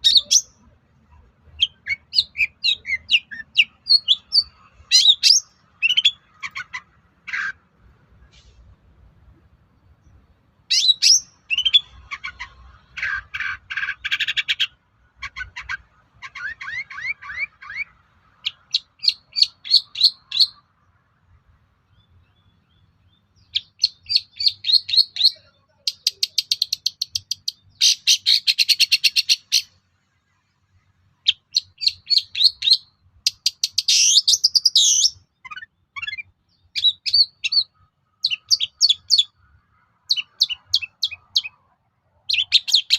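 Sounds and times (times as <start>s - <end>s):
bird singing chattering trills: 0.0s - 0.7s, 1.6s - 7.6s, 10.0s - 20.6s, 21.9s - 29.7s, 31.2s - 41.6s, 42.3s - 42.9s.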